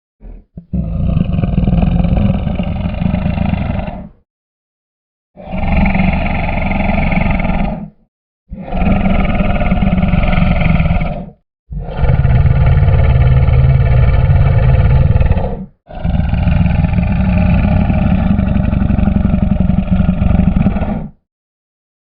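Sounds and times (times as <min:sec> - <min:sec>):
crocodile growling: 0:00.2 - 0:04.2, 0:05.4 - 0:21.2.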